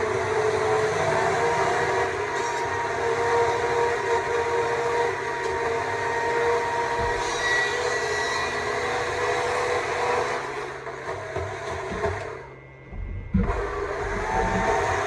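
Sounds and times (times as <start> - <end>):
electric chainsaw cutting wood: 0.0 - 15.0.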